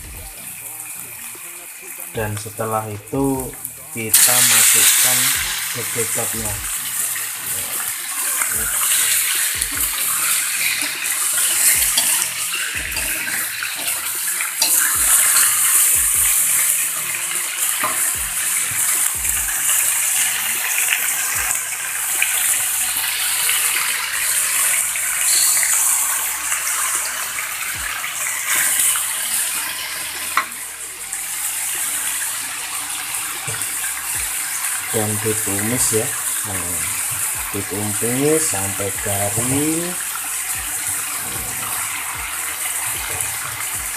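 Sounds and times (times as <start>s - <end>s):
food sizzling in hot oil: 0.0s - 43.9s.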